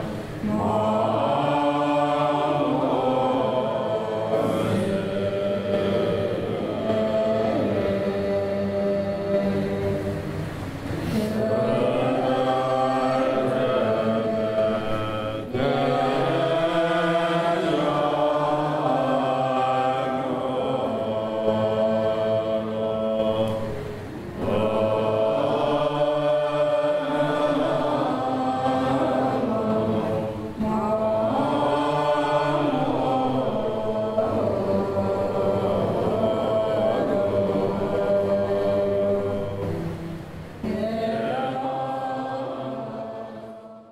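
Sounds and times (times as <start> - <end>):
group of voices chanting: 0.0 - 39.9.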